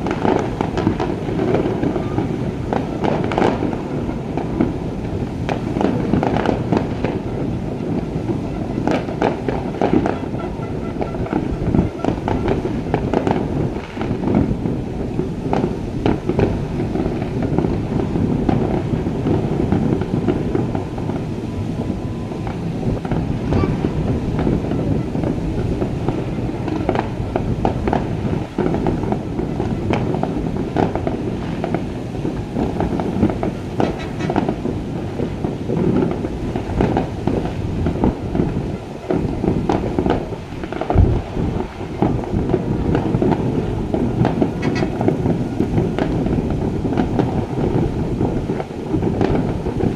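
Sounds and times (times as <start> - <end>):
fireworks bangs and crackles: 0.0 - 49.9
rumble of explosions: 0.0 - 49.9.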